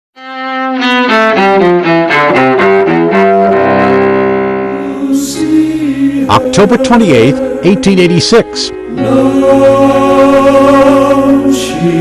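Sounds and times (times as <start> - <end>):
theme music with held chord: 0.6 - 12.0.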